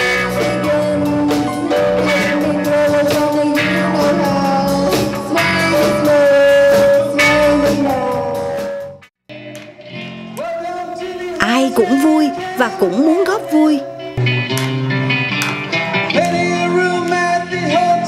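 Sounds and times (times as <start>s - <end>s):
person singing: 0.0s - 8.8s, 9.6s - 14.2s, 16.1s - 18.0s
live band dance music: 0.0s - 9.0s, 10.3s - 18.0s.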